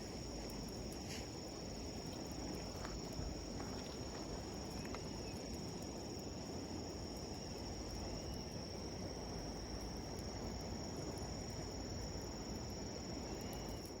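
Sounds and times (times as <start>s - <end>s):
crickets trilling: 0.0s - 14.0s
faint campfire crackles: 0.0s - 14.0s.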